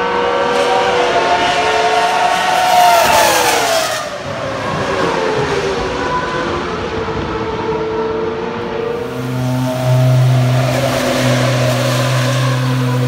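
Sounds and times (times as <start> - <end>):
distant race car engine: 0.0 - 13.0.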